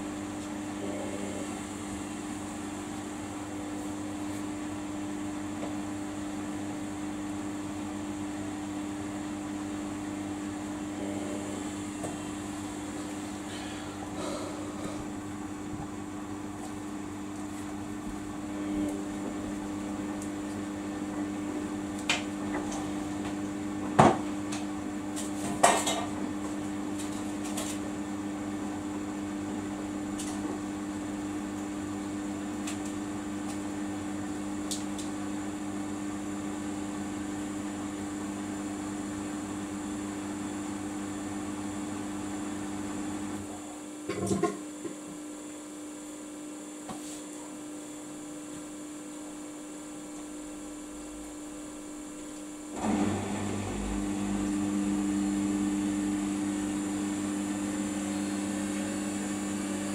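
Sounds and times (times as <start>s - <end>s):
washing machine spinning: 0.0s - 45.0s, 49.0s - 59.9s.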